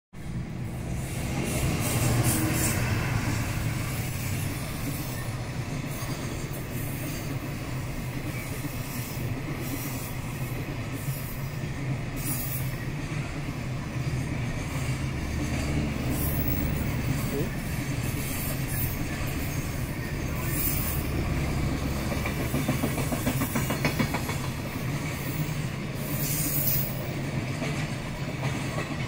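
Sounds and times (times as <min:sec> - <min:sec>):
freight train wheels on rails: 0:00.1 - 0:29.0.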